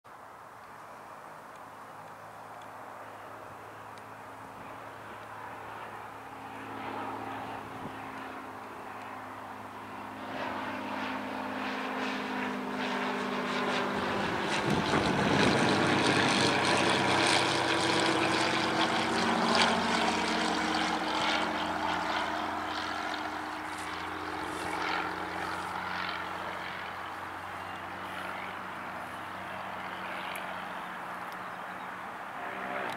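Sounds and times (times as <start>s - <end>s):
propeller plane droning overhead: 0.1s - 32.9s.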